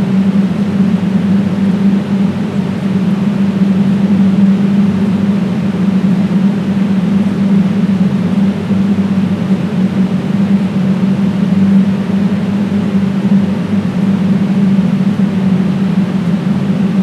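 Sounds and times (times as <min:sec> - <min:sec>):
loud droning hum: 0:00.0 - 0:17.0.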